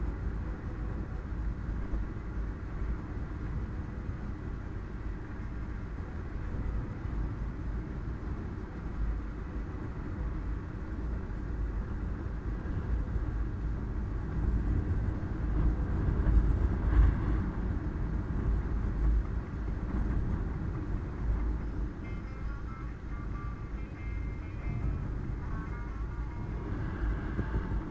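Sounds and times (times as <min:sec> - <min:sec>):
car engine and road rumble: 0:00.0 - 0:27.9.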